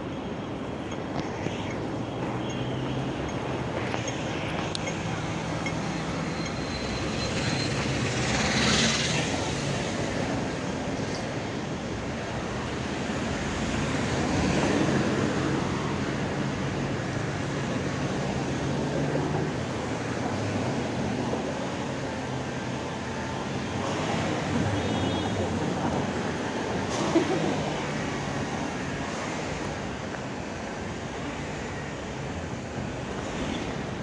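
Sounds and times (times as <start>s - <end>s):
rumble of vehicle traffic: 0.0s - 34.0s.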